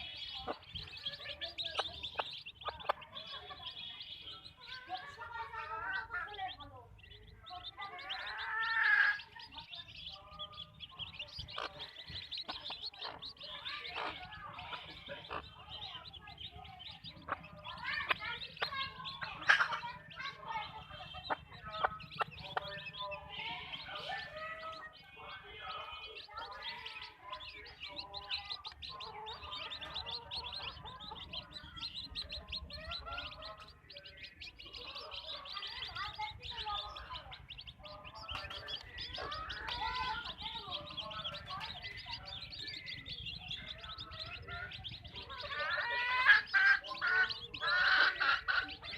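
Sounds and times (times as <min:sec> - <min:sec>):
chickens clucking: 0:00.0 - 0:48.9
high chirping and peeping: 0:00.0 - 0:48.9.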